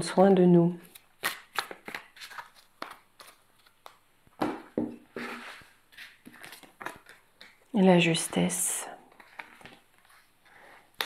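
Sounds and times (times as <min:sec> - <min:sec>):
cards being shuffled by hand: 0:00.8 - 0:04.0, 0:04.7 - 0:11.0.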